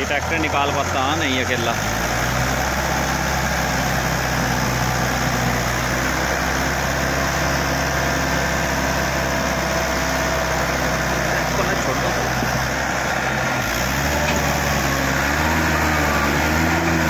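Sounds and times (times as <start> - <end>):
tractor diesel engine straining: 0.0 - 17.0.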